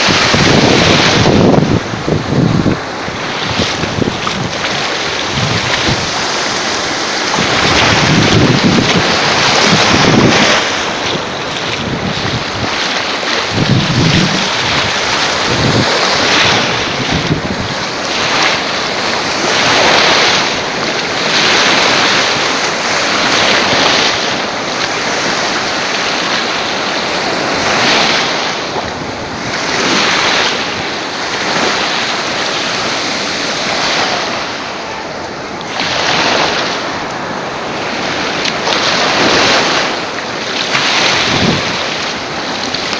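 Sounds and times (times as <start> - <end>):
sea waves washing ashore: 0.0 - 42.9
wind buffeting microphone: 0.0 - 42.9.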